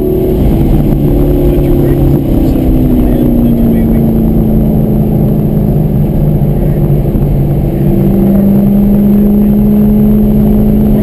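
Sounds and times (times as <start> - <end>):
car engine running hard: 0.0 - 11.0
wind noise: 0.0 - 11.0.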